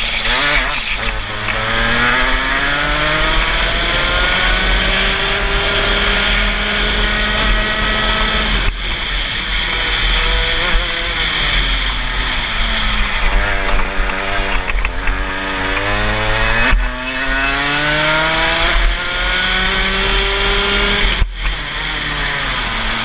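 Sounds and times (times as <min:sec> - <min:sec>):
kart engine at full throttle: 0:00.0 - 0:23.0.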